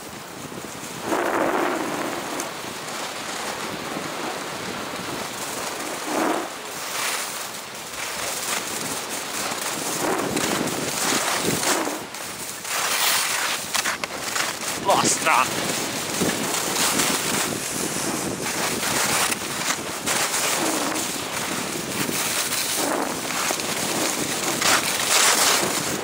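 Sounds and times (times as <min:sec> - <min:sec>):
wind rushing over microphone: 0:00.0 - 0:07.1, 0:07.7 - 0:12.8, 0:13.4 - 0:26.0
skis scraping on snow: 0:00.0 - 0:26.0.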